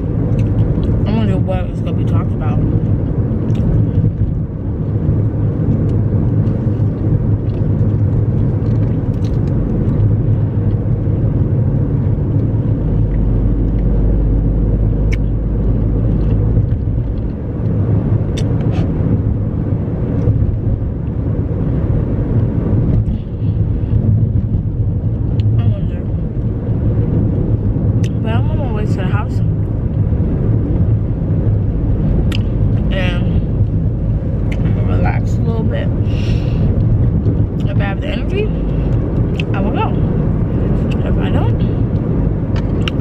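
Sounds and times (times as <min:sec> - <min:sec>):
car cabin road rumble: 0:00.0 - 0:43.0.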